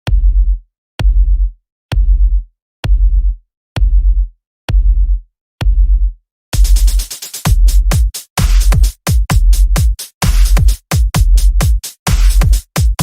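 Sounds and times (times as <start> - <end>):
bright electronic beat: 0.1 - 13.0.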